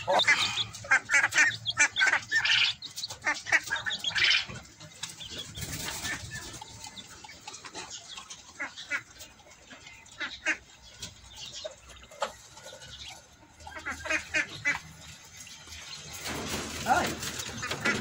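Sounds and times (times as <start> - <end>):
poultry chirping calls: 0.0 - 18.0.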